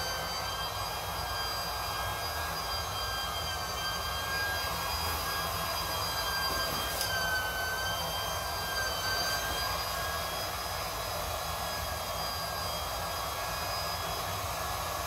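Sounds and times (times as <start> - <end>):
portable air pump whirring: 0.0 - 15.0.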